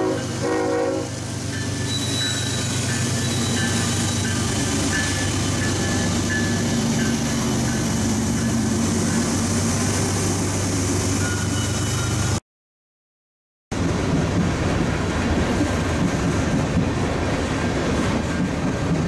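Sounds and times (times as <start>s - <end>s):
diesel locomotive engines rumbling: 0.0s - 12.4s, 13.7s - 19.0s
train wheel and rail noise: 0.0s - 12.4s, 13.7s - 19.0s.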